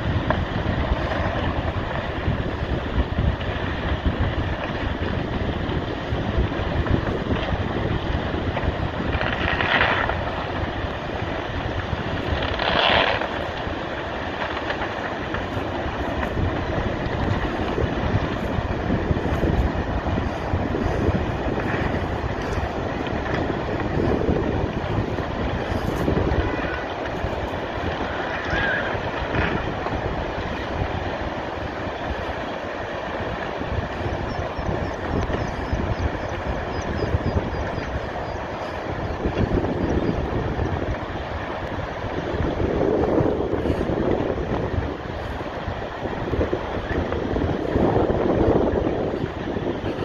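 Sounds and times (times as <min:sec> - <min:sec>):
landslide rumble: 0:00.0 - 0:50.0
wind buffeting microphone: 0:00.0 - 0:50.0.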